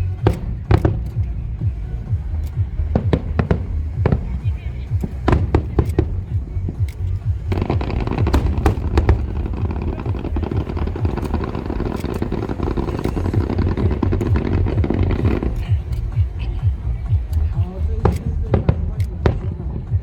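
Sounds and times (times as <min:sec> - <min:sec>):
fireworks booming: 0:00.0 - 0:17.4, 0:18.0 - 0:20.0
fireworks cracking: 0:00.0 - 0:20.0.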